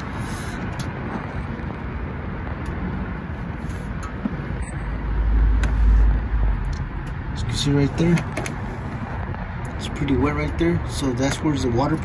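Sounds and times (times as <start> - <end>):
rushing outdoor background noise: 0.0 - 12.0.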